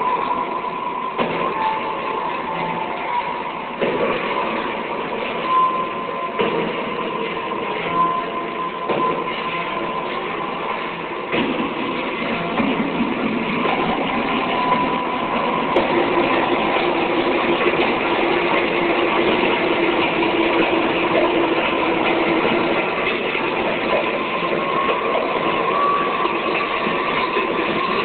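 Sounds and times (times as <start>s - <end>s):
synthesizer: 0.0s - 28.0s.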